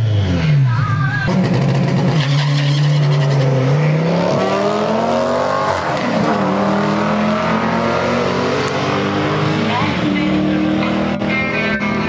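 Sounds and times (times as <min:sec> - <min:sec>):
cars accelerating hard: 0:01.3 - 0:12.0.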